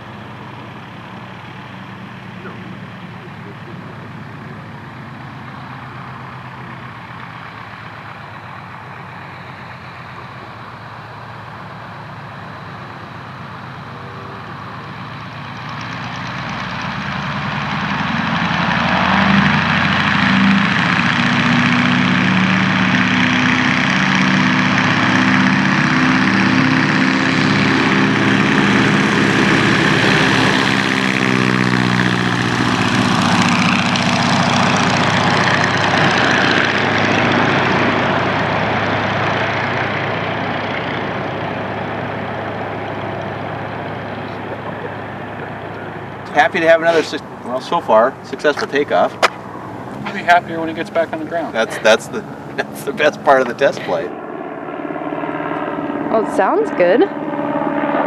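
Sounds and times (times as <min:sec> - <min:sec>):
propeller plane engine roaring: 0:00.0 - 0:58.0.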